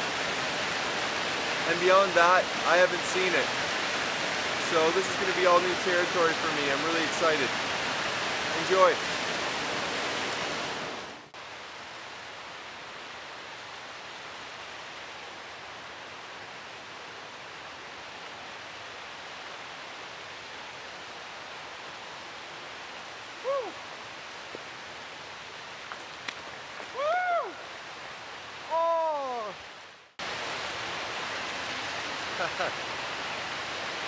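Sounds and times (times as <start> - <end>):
rushing of falling water: 0.0 - 34.0.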